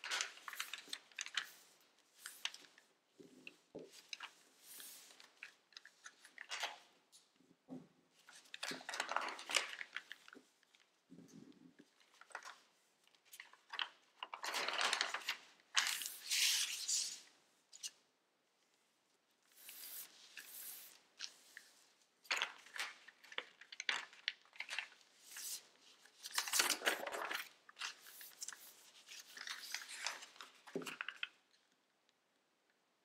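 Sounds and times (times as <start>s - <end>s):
paper rustling and crinkling: 0.0s - 6.9s, 8.2s - 17.2s, 19.5s - 31.4s.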